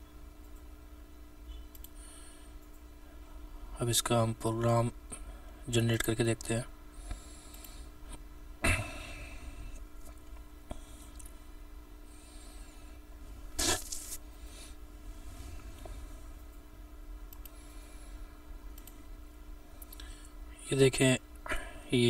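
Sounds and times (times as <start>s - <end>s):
faint hum and hiss: 0.0s - 22.0s.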